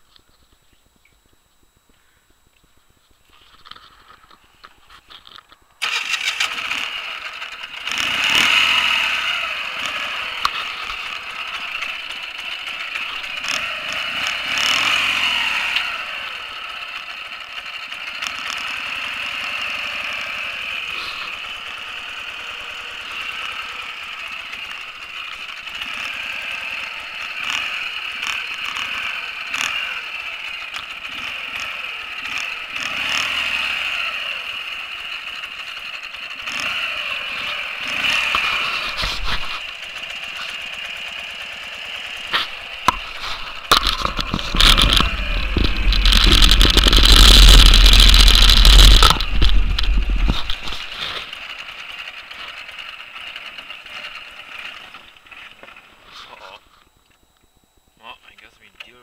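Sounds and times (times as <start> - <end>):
motorcycle engine running: 0.0 - 57.1.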